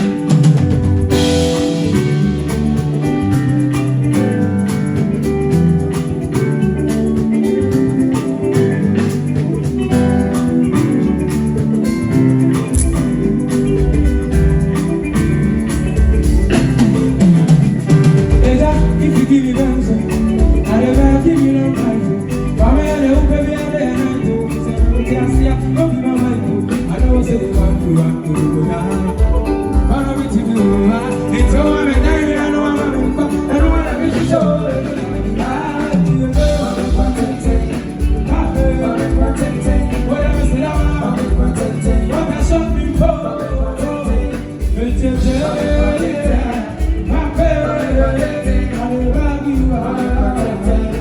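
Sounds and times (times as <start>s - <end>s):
guitar: 0.0s - 51.0s
heavy rhythmic bass line: 0.0s - 51.0s
live band playing: 0.0s - 51.0s.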